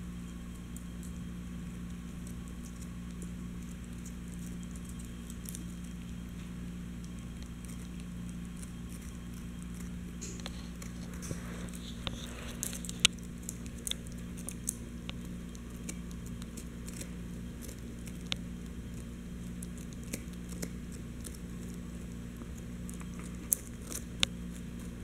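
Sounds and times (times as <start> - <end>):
dog chewing rawhide bone: 0.4 - 25.0.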